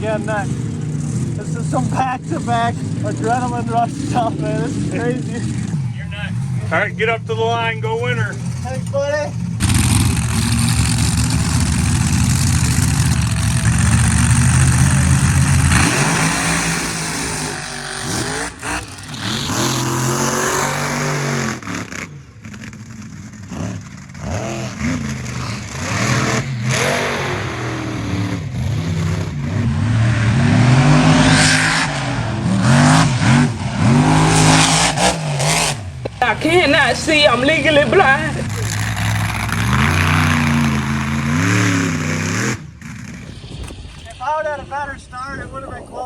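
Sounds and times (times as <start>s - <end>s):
truck engine racing: 0.0s - 45.8s.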